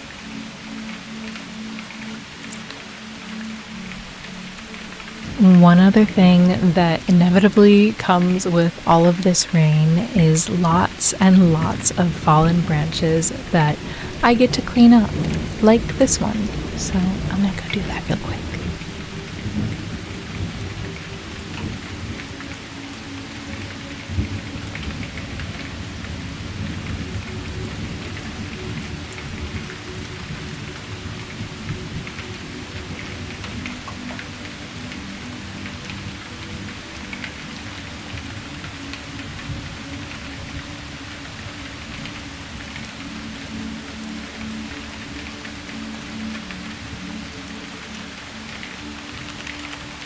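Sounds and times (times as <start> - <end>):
raindrops ticking: 0.0 - 50.0
soft music of held notes: 0.0 - 50.0
steady rain falling: 0.0 - 50.0.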